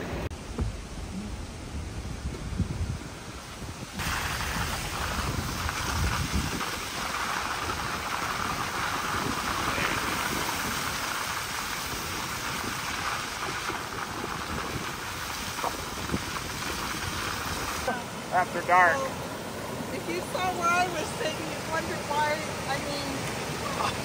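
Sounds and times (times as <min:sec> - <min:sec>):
car engine and road noise: 0:00.0 - 0:24.0
tyres hissing on wet road: 0:02.8 - 0:24.0.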